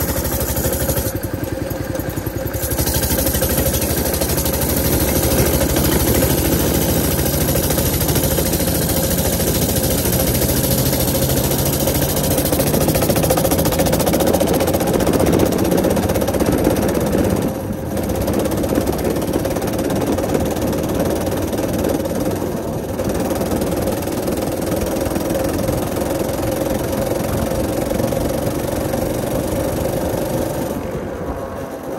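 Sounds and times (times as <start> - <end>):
small engine running: 0.0 - 31.9.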